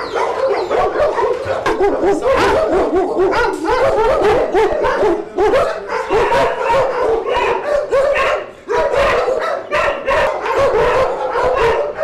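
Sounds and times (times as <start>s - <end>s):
many dogs barking: 0.0s - 12.0s.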